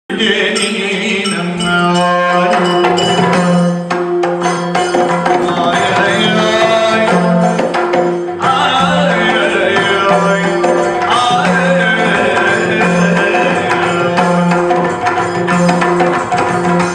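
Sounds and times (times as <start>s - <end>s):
drums struck: 2.4s - 16.9s.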